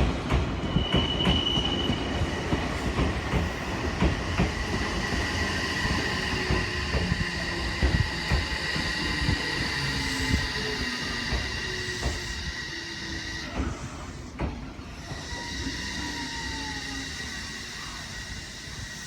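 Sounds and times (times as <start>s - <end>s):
train brakes squealing: 0.1s - 19.0s.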